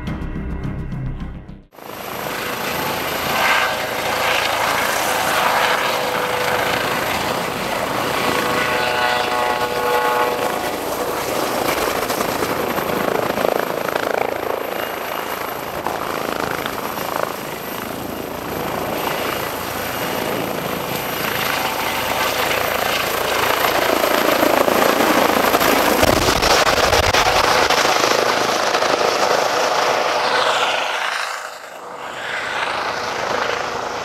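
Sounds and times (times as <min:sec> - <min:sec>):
helicopter hovering: 0:00.0 - 0:34.0.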